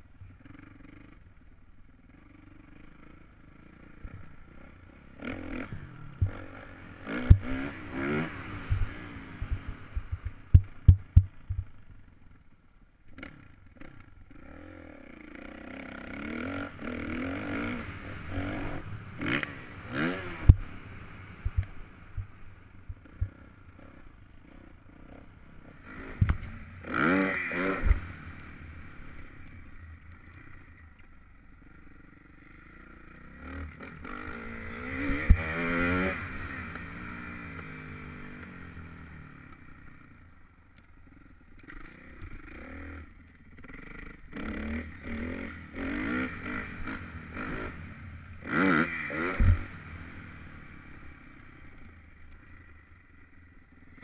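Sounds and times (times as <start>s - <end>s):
dirt bike engine revving: 2.1s - 11.7s, 13.1s - 30.7s, 31.6s - 40.0s, 41.6s - 52.8s.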